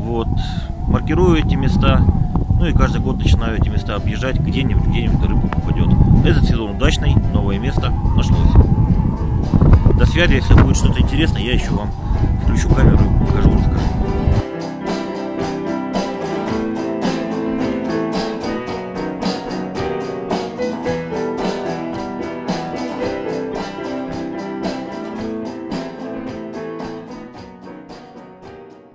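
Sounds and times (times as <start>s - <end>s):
plucked guitar music: 4.1s - 11.2s, 11.9s - 28.9s.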